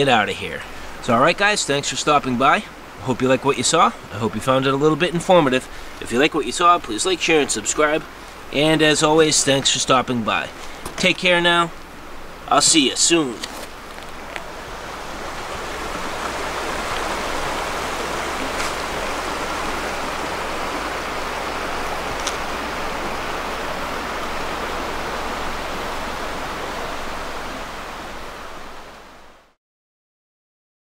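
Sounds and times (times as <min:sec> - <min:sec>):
river running over stones: 0:00.0 - 0:29.5.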